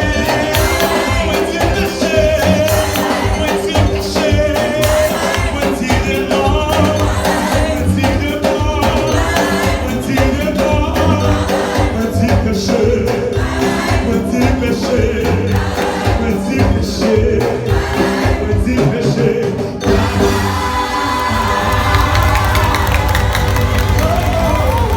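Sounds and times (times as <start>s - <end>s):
choir singing gospel: 0.0s - 24.9s
rhythmic accompaniment: 0.0s - 24.9s.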